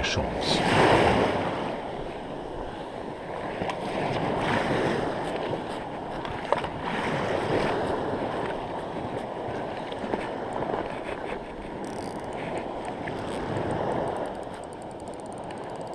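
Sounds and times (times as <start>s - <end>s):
small waves lapping: 0.0s - 14.8s
wind on microphone: 0.6s - 14.4s.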